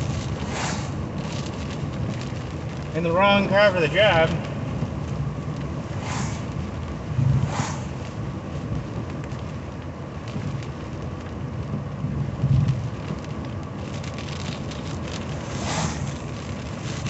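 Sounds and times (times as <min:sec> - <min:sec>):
rain hitting car windshield: 0:00.0 - 0:17.0
road and wind noise rumble: 0:00.0 - 0:17.0.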